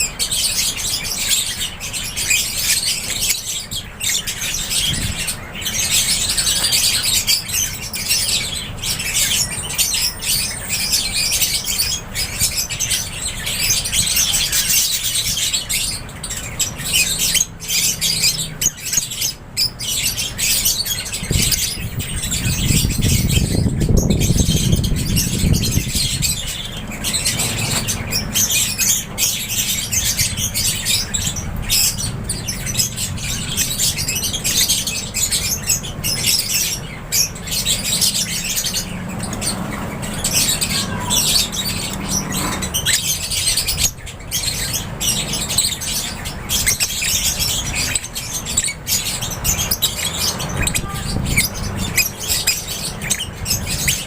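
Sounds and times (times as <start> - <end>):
birds chirping and squawking: 0.0 - 54.0.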